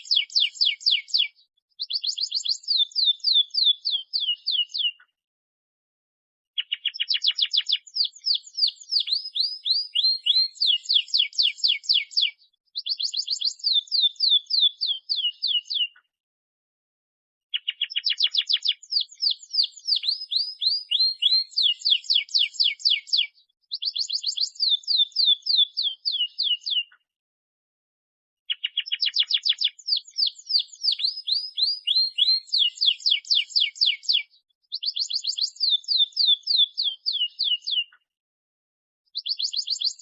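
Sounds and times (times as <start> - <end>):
canary singing: 0.0 - 5.0, 6.6 - 16.0, 17.5 - 27.0, 28.5 - 38.0.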